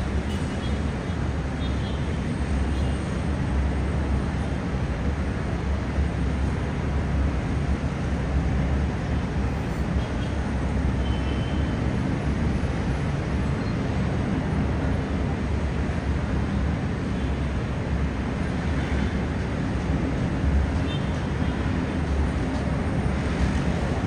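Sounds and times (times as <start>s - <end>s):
heavy traffic rumble: 0.0s - 24.0s.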